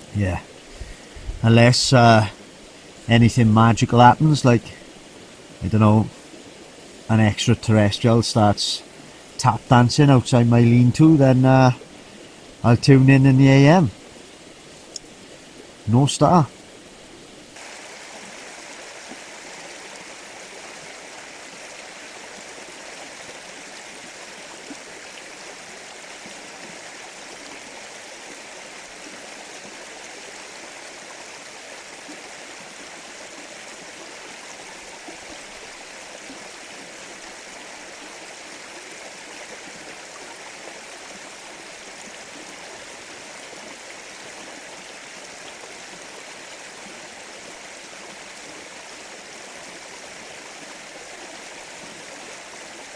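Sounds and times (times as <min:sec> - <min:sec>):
stream flowing over stones: 0:00.0 - 0:52.9.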